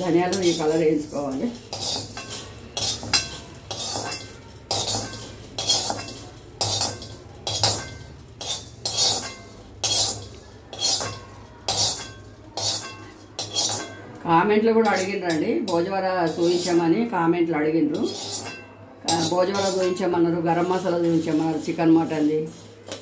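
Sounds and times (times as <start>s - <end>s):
ladle scraping metal pan: 0.0s - 17.1s, 17.8s - 23.0s
seeds rattling onto steel plate: 0.0s - 17.1s, 17.8s - 23.0s.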